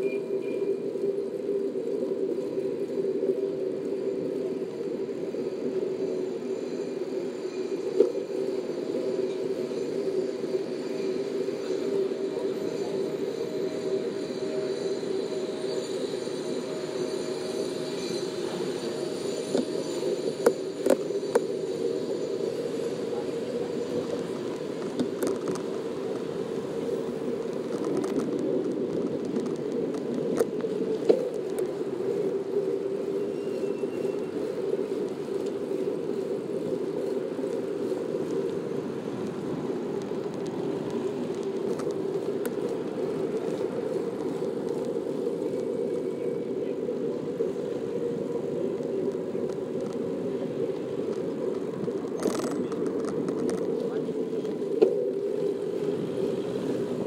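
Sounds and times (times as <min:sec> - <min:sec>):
bicycle rolling on asphalt: 0:00.0 - 0:57.0.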